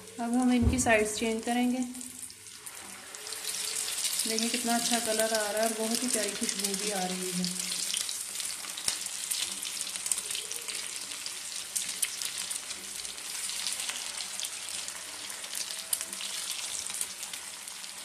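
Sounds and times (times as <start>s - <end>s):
cutlets sizzling in hot ghee: 1.3s - 18.0s.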